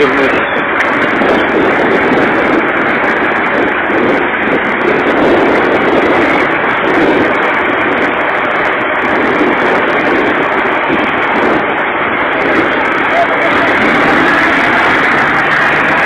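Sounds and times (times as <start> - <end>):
heavy machinery engines running: 0.0 - 16.0.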